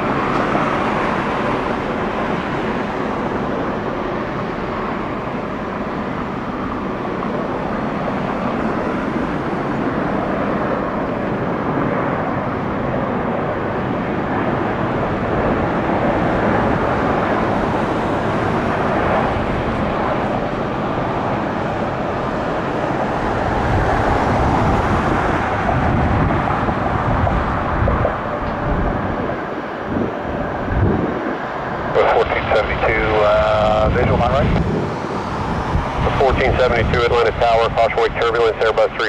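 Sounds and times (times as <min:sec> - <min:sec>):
jet engine rushing noise: 0:00.0 - 0:39.0.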